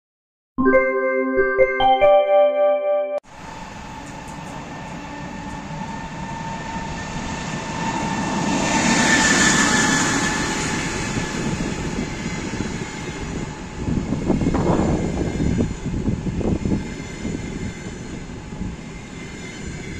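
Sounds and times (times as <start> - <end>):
train rolling past: 3.3 - 19.9.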